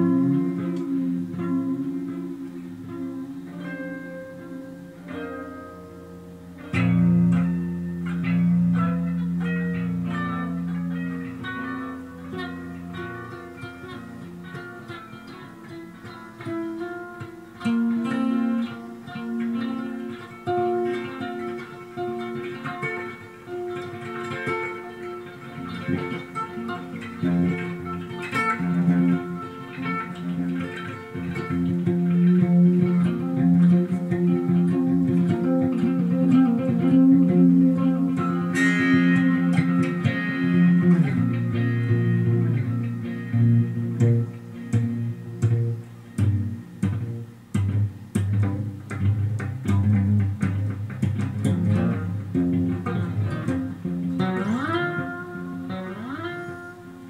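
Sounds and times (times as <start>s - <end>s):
solo guitar: 0.0s - 57.0s.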